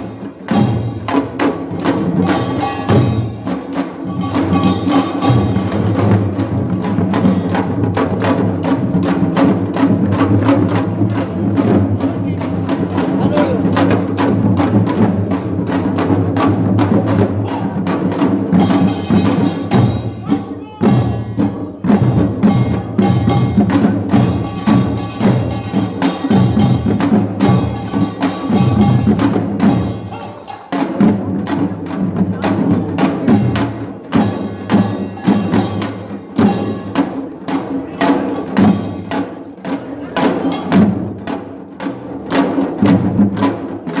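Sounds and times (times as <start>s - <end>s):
gongs and drums striking: 0.0s - 44.0s
percussion band playing: 0.0s - 44.0s.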